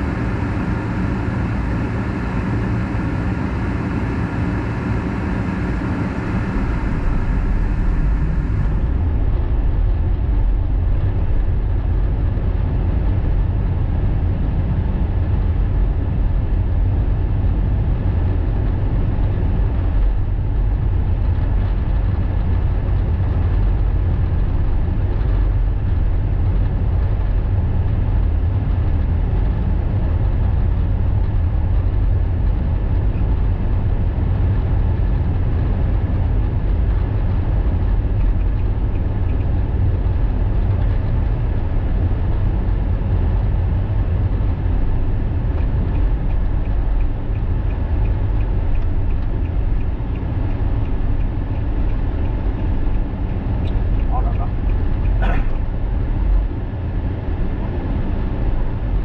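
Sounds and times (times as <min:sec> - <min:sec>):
car road noise from inside: 0:00.0 - 0:59.0.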